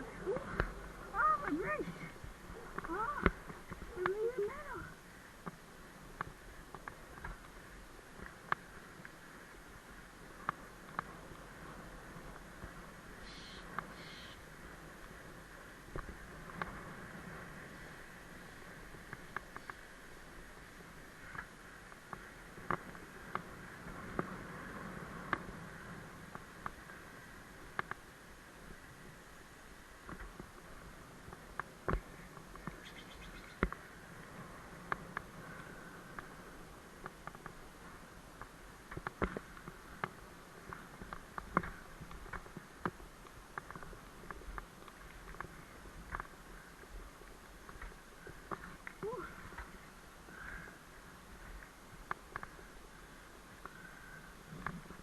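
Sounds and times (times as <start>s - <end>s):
bicycle tyres rolling hiss: 0.0s - 55.0s
faint steady rushing noise: 0.0s - 55.0s.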